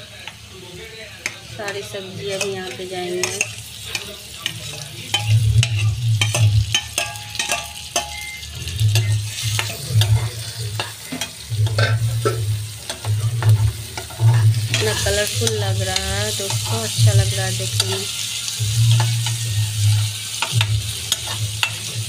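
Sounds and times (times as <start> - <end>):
light sizzle: 0.0 - 22.0
ladle scraping a frying pan: 2.4 - 22.0.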